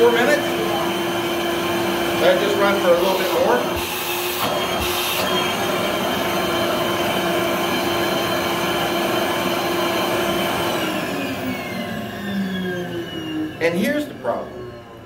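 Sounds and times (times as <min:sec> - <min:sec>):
vacuum motor whoosh and hum: 0:00.0 - 0:15.0.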